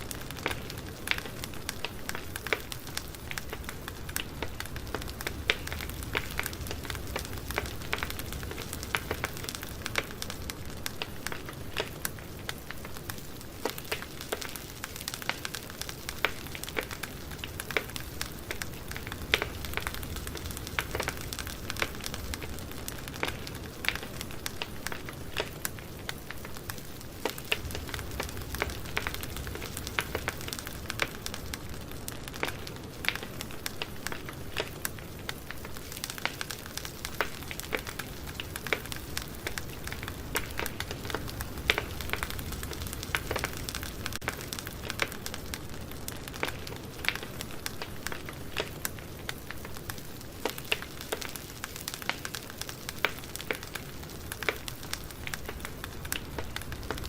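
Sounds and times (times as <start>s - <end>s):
campfire wood crackling: 0.0s - 57.0s
flames hissing and rumbling: 0.0s - 57.0s.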